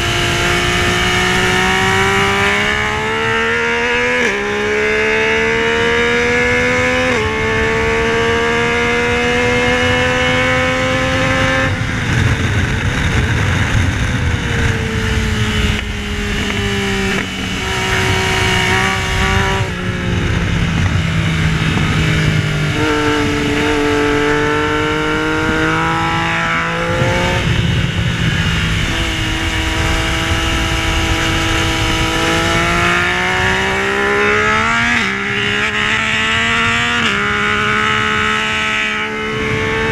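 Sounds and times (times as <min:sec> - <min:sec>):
motorcycle engine revving: 0:00.0 - 0:39.9
wind rushing: 0:05.8 - 0:38.2.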